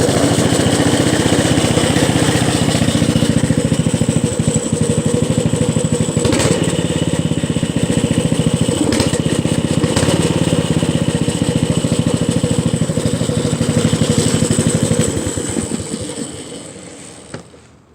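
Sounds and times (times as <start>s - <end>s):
small gasoline engine running: 0.0s - 17.9s.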